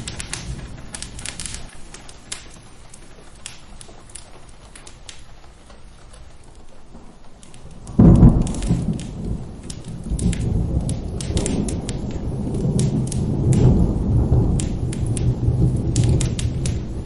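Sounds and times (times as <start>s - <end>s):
steady rain: 0.0s - 17.0s
thunder rumbling: 0.0s - 17.0s
wood fire crackling: 0.0s - 17.0s.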